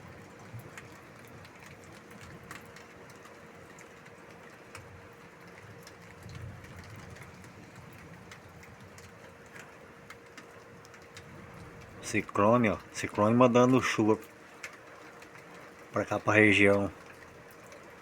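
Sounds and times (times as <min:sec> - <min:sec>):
faint steady hum: 0:00.0 - 0:18.0
raindrops ticking: 0:00.0 - 0:18.0.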